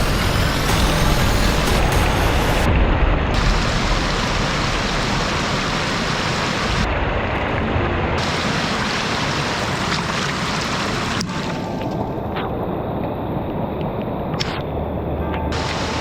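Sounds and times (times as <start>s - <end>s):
heavy rain: 0.0s - 16.0s
rushing runoff water: 0.1s - 16.0s.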